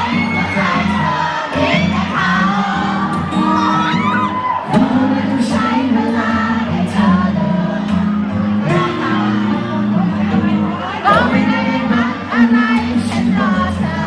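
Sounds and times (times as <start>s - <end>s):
audience screaming and cheering: 0.0s - 14.0s
live pop music: 0.0s - 14.0s.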